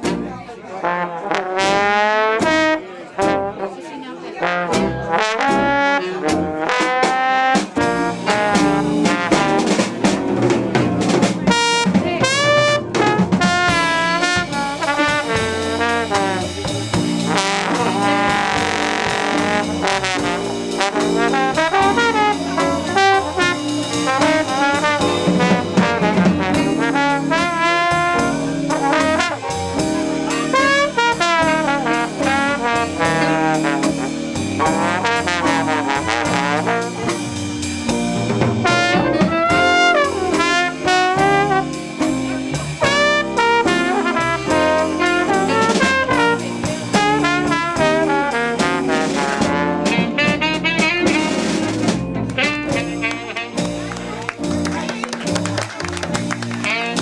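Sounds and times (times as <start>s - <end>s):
drum kit: 0.0s - 3.8s, 4.4s - 57.0s
double bass: 0.0s - 57.0s
trombone solo: 0.8s - 3.8s, 4.4s - 54.7s, 56.6s - 57.0s.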